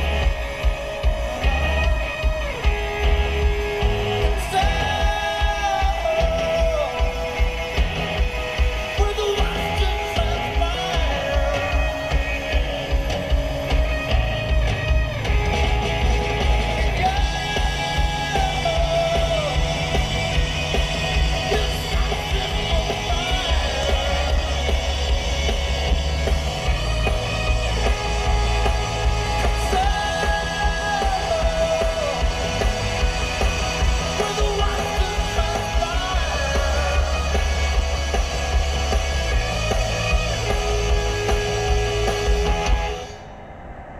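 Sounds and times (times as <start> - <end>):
rock music over car stereo: 0.0 - 43.3.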